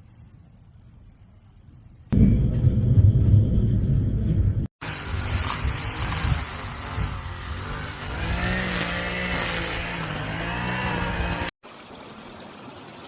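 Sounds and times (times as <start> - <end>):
engine hum: 0.6 - 11.5.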